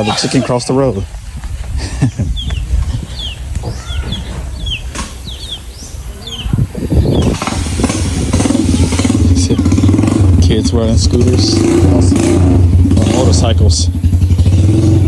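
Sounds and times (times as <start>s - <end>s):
high falling bird chirps: 0.0s - 12.3s
low rumble: 1.0s - 15.0s
motorcycle engine: 2.8s - 15.0s.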